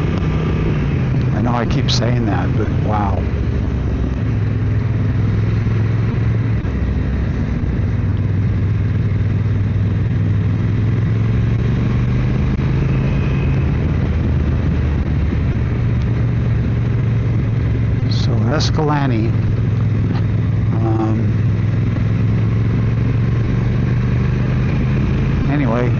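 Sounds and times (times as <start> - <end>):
motorcycle engine cruising: 0.0 - 25.9.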